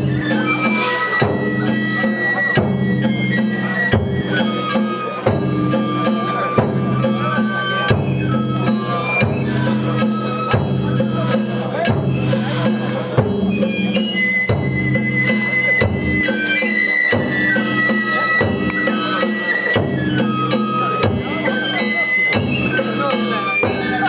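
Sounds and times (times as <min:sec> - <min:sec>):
drum beats: 0:00.0 - 0:24.0
high flute melody: 0:00.0 - 0:24.0.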